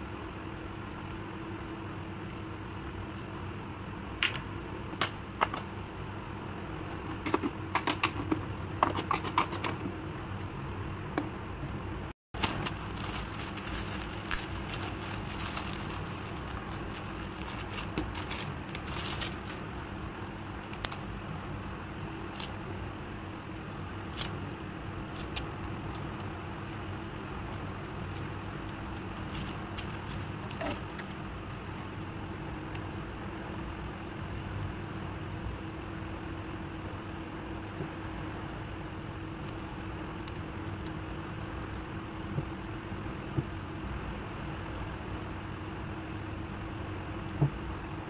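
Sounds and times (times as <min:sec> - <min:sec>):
background hum and hiss: 0:00.0 - 0:48.0.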